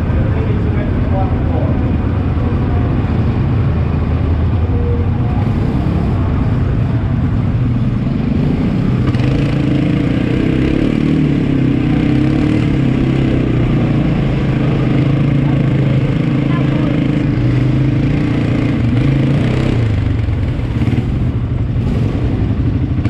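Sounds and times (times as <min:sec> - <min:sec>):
quad bike engine running: 0:00.0 - 0:23.0.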